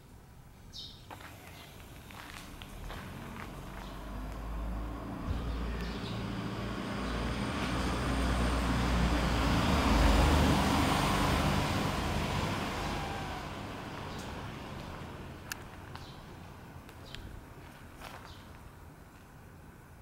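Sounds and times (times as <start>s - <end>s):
motor vehicle passing by: 1.1s - 18.4s.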